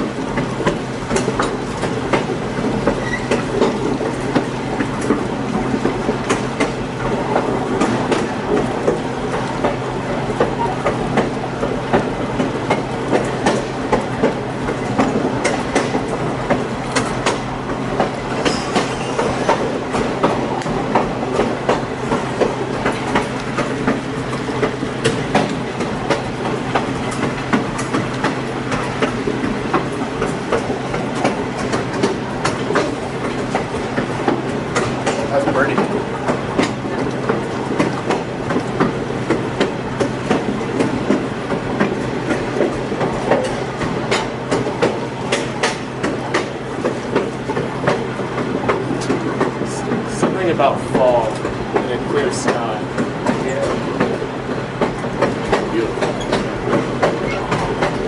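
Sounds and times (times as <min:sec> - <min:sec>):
train rumbling on track: 0:00.0 - 0:58.0
wheels clacking over rails: 0:00.0 - 0:58.0.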